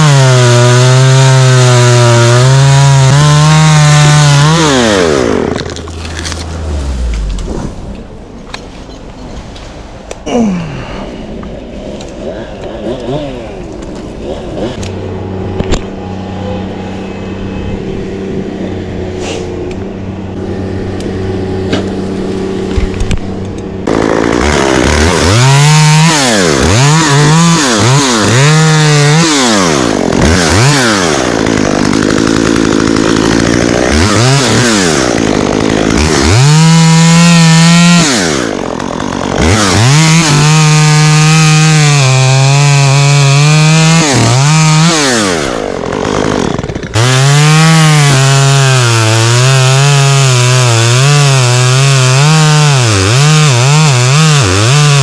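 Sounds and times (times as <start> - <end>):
chainsaw idling and revving: 0.0 - 7.5, 12.2 - 16.0, 20.2 - 55.0.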